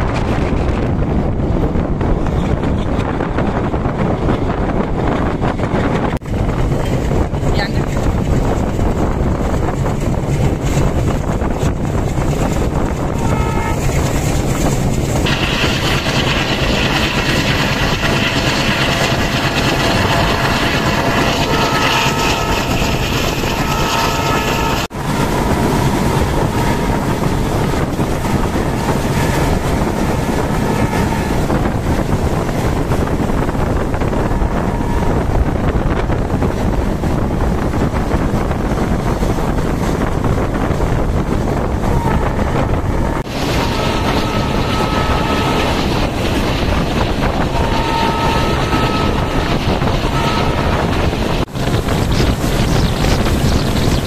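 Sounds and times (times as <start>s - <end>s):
train wheels rumbling on rails: 0.0s - 54.0s
wind rush on microphone: 0.0s - 54.0s.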